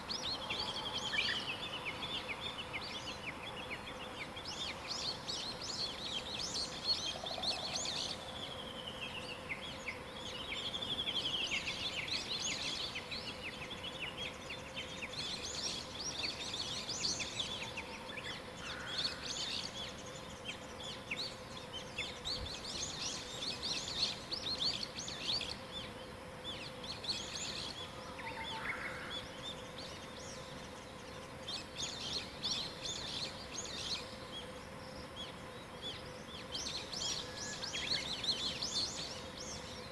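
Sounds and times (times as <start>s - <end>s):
faint steady hum: 0.0s - 39.9s
songbirds singing and calling: 0.0s - 39.9s.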